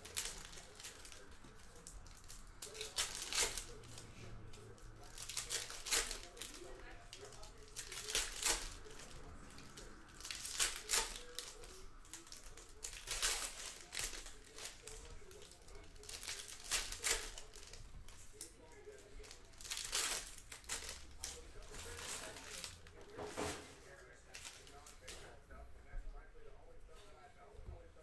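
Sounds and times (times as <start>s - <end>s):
card pack wrappers crinkling: 0.0s - 23.6s.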